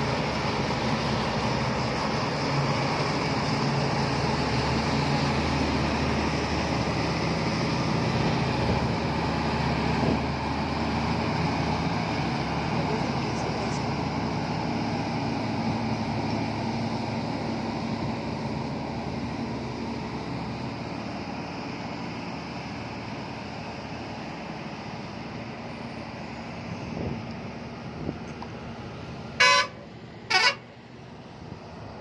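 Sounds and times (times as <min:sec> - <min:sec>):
diesel truck engine driving past: 0:00.0 - 0:32.0.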